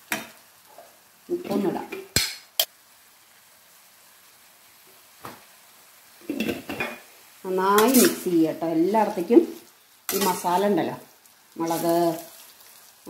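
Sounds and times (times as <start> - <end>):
food sizzling faintly in a pan: 0.0 - 13.0.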